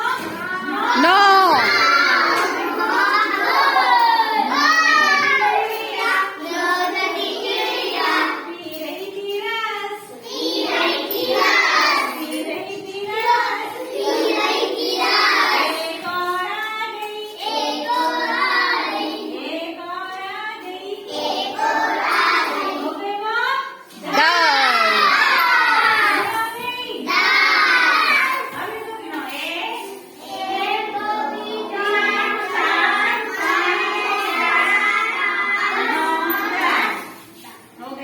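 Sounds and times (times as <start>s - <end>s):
children singing a counting rhyme: 0.0s - 37.7s.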